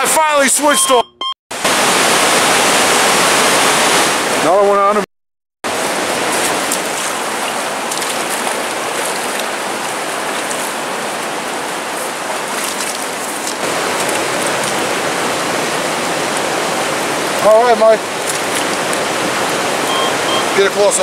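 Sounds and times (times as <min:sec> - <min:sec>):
creek water rushing: 0:01.6 - 0:04.9, 0:05.7 - 0:21.0.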